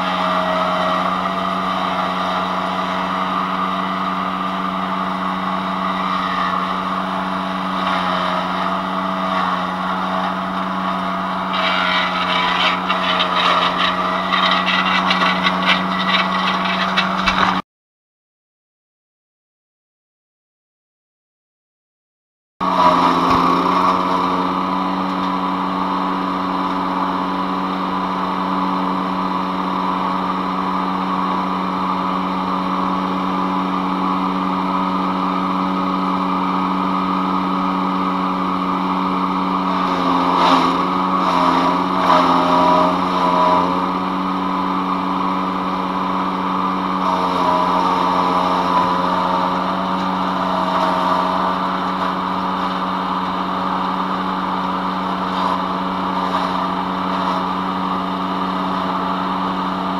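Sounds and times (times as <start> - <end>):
wood chipper engine running: 0.0 - 17.6, 22.6 - 59.9
branches crunching in chipper: 0.1 - 17.6, 22.6 - 35.0, 38.9 - 59.9.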